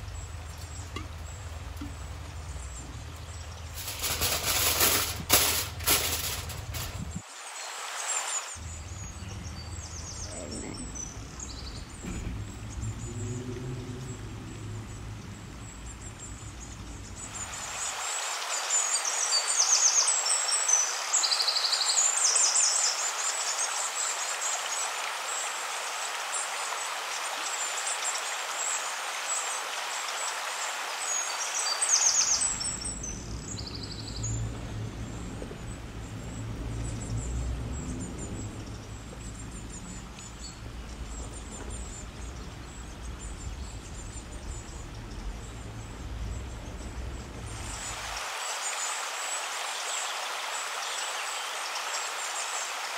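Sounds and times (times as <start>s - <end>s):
steady hiss: 0.0s - 12.9s, 15.5s - 34.5s, 38.9s - 52.9s
small birds chirping: 0.0s - 52.9s.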